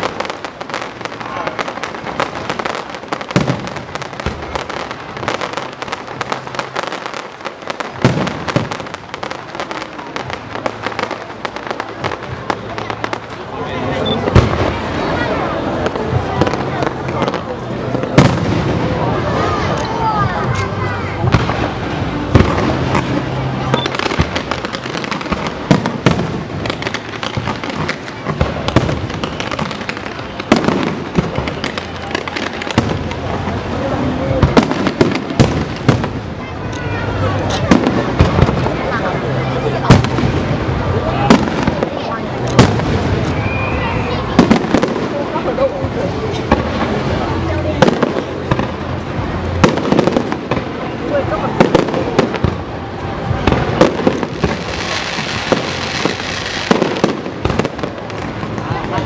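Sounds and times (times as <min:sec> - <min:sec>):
firework booms: 0:00.0 - 0:19.8, 0:20.4 - 0:59.0
fireworks crackling: 0:00.0 - 0:59.0.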